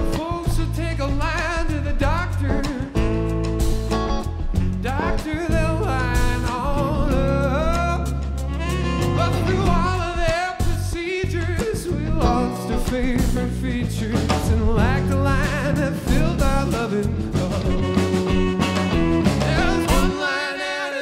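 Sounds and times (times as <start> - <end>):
man singing with vibrato: 0.0 - 3.9, 4.6 - 21.0
funk band playing live: 0.0 - 21.0.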